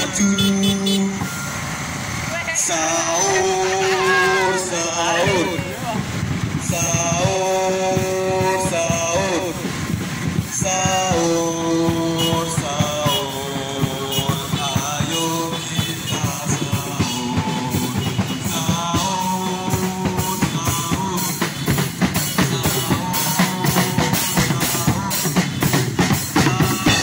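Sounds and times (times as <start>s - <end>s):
drum kit beat with rimshots: 3.2s - 27.0s.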